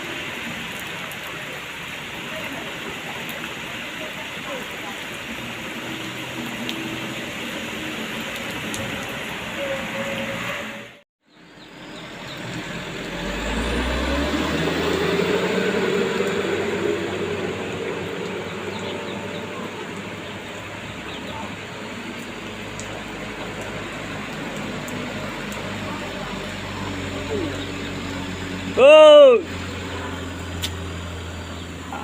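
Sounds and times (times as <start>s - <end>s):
rain hissing: 0.0s - 32.0s
heavy truck engine rumbling: 5.2s - 32.0s.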